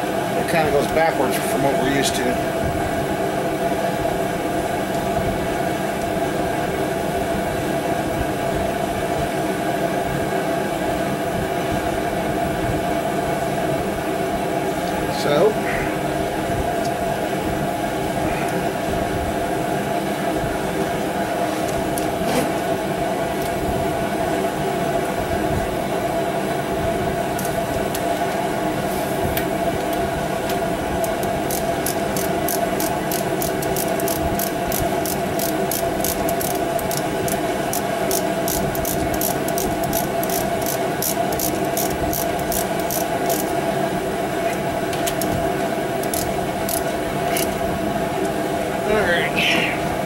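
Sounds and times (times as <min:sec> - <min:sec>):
mechanical hum with tones: 0:00.0 - 0:50.0.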